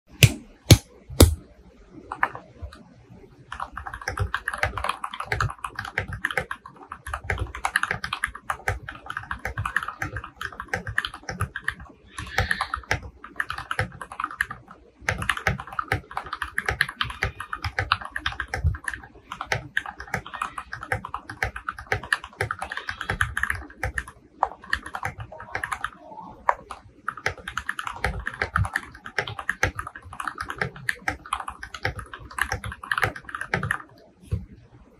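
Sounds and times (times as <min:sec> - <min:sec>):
typing on mechanical keyboard: 0:03.5 - 0:34.1.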